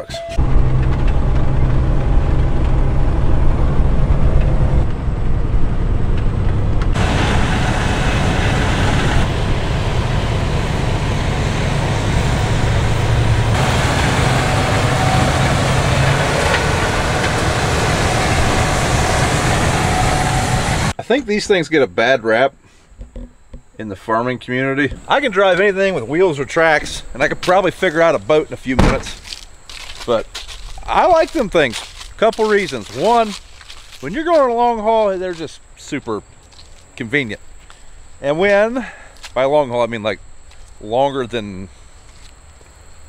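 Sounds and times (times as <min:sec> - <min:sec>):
farm machinery engine drone: 0:00.2 - 0:21.0, 0:23.9 - 0:42.4.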